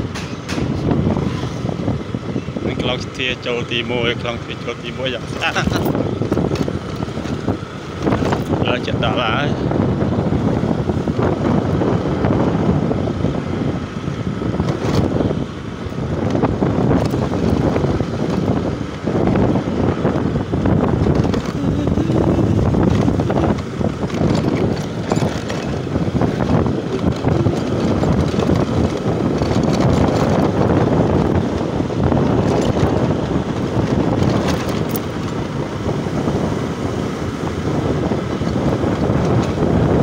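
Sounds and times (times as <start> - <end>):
motorbike engine running: 0.0 - 40.0
wind buffeting microphone: 0.0 - 40.0.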